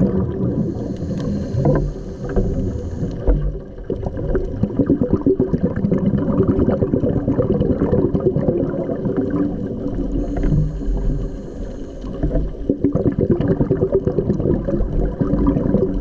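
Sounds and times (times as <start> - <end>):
underwater regulator bubbles gurgling: 0.0 - 16.0.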